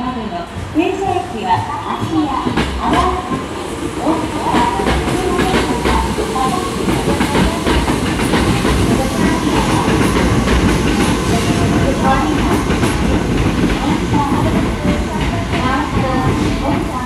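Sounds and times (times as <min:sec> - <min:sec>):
electric train rumbling: 0:00.0 - 0:17.0
wheels clacking over rail joints: 0:02.0 - 0:17.0.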